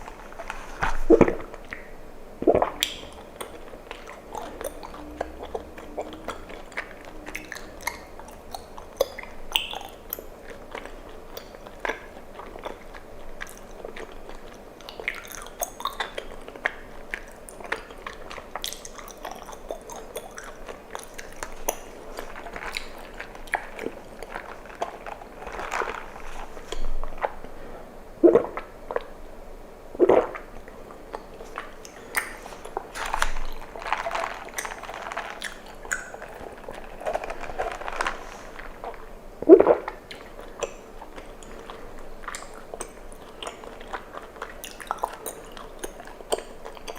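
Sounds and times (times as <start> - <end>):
wet chewing and smacking: 1.1 - 27.6, 30.0 - 46.9.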